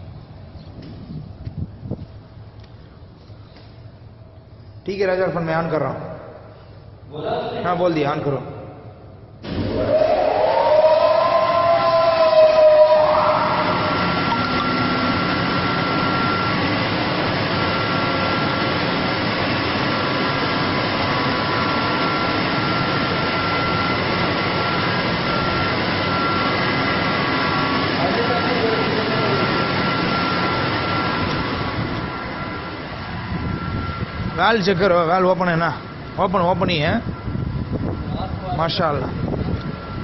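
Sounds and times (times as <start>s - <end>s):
constant rushing hum: 0.0s - 40.0s
pump motor whine: 0.0s - 40.0s.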